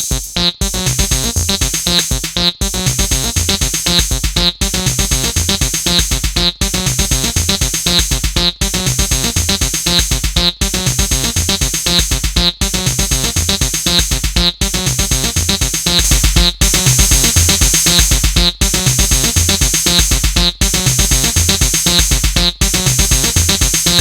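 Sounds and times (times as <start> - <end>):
acid electronic synth pattern: 0.0 - 24.0.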